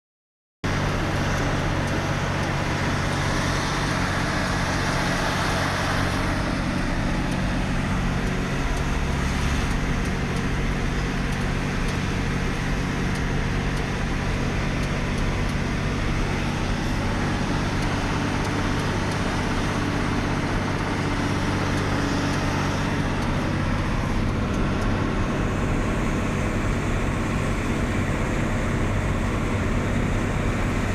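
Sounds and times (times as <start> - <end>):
road noise: 0.6 - 30.9
truck engine droning: 0.6 - 30.9.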